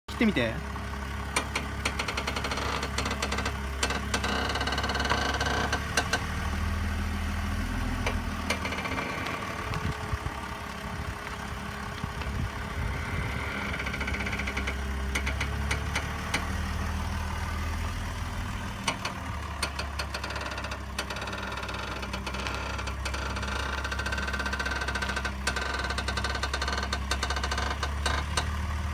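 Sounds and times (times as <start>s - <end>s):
car engine running: 0.1s - 28.9s
steering clicks and knocks: 1.1s - 28.9s.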